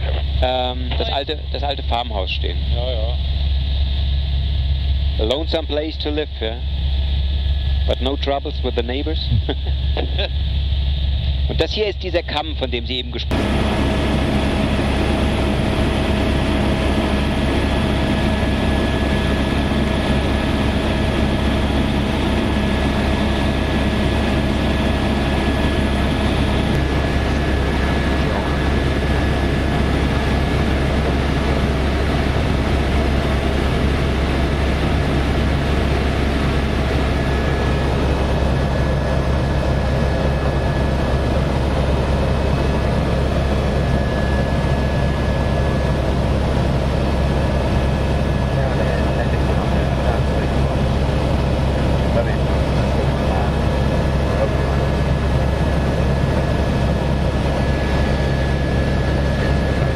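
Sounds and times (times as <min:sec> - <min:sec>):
helicopter rotor and turbine drone: 0:00.0 - 0:59.9
high whine: 0:00.0 - 0:59.9.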